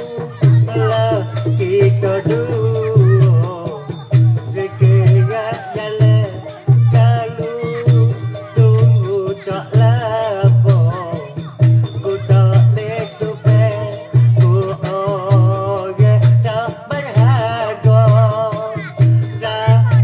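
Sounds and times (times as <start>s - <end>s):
low drum beat: 0.0s - 20.0s.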